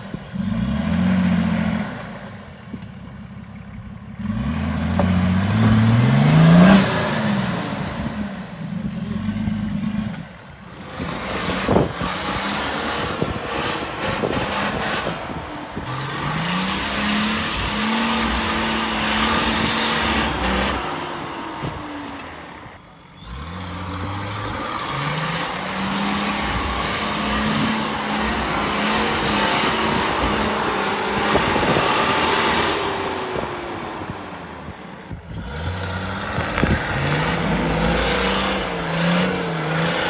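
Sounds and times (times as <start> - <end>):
diesel engine revving under load: 0.0 - 40.0.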